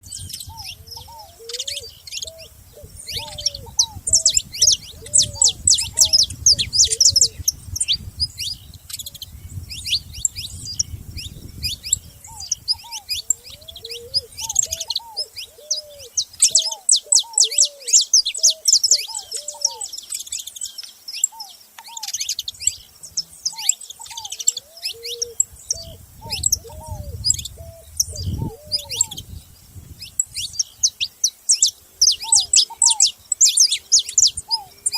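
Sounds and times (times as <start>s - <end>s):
finches chirping and chattering: 0.0s - 34.9s
low repeated bird call: 0.0s - 34.9s.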